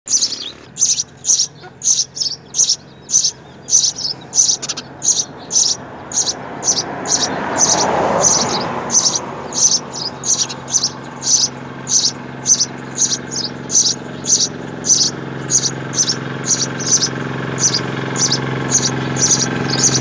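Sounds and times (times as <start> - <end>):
nestlings chirping: 0.1 - 20.0.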